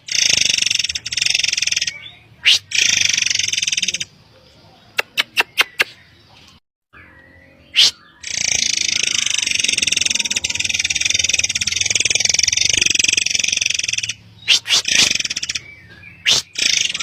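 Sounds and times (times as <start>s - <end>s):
bird calling with buzzy trill: 0.0s - 4.2s, 7.0s - 17.0s.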